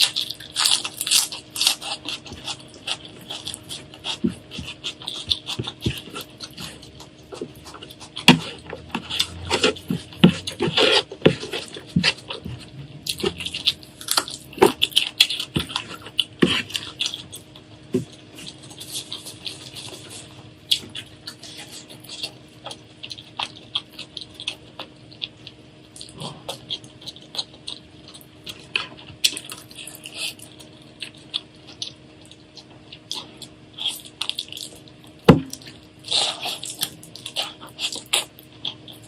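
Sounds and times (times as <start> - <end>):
close-miked eating sounds: 0.0 - 39.0.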